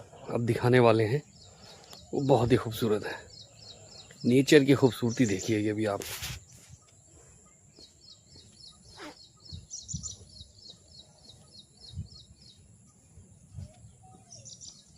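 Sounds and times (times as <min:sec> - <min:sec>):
bird high chirps: 0:01.0 - 0:14.9.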